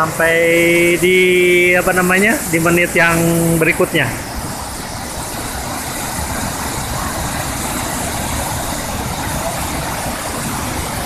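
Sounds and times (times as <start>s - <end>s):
water spilling over a weir: 0.0s - 11.0s
waterfall rushing: 0.0s - 11.0s.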